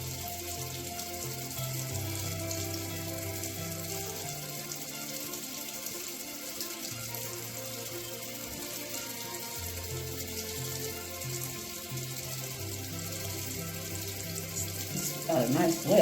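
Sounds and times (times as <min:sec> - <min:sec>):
background music: 0:00.0 - 0:16.0
tap water running into sink: 0:00.0 - 0:16.0.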